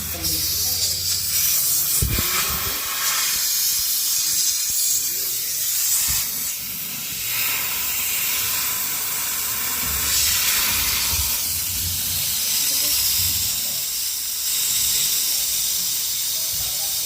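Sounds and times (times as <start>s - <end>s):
gas hissing out under pressure: 0.0s - 17.0s.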